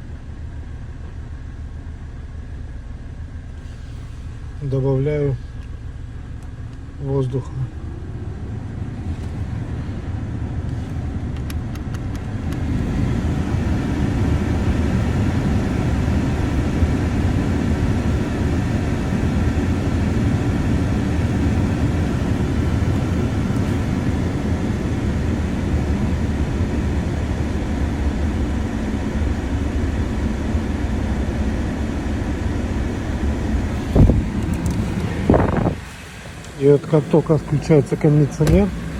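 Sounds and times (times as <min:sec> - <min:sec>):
car engine running: 0:00.0 - 0:38.9
engine rattle: 0:00.0 - 0:38.9.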